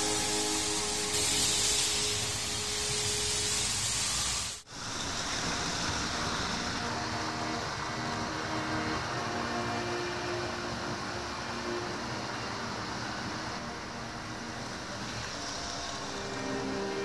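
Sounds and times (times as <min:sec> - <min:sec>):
model trains rolling on track: 0:00.0 - 0:17.0.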